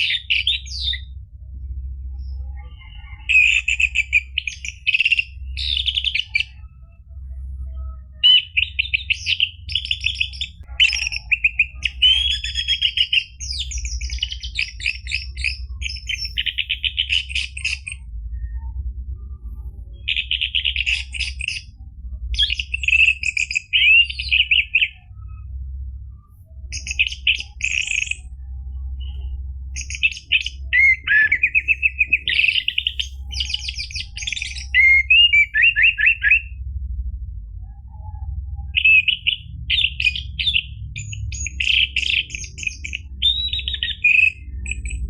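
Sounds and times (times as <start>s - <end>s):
bird singing trills and whistles: 0.0s - 1.2s, 2.0s - 36.7s, 37.6s - 45.0s
low steady hum: 0.0s - 45.0s.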